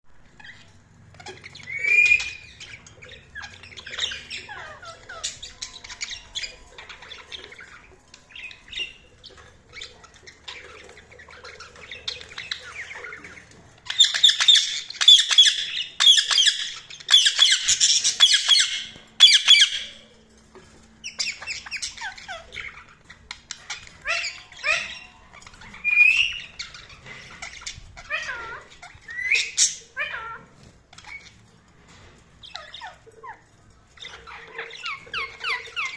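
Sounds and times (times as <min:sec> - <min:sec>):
budgerigars chirping and squawking: 0:00.1 - 0:35.9.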